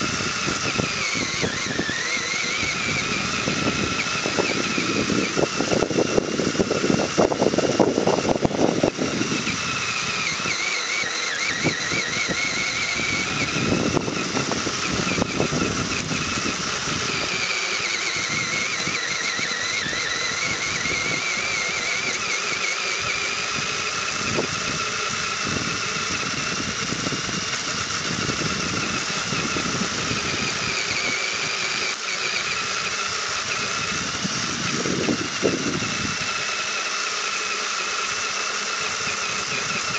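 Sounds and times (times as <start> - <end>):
electric motor and gears whining: 0.0 - 39.9.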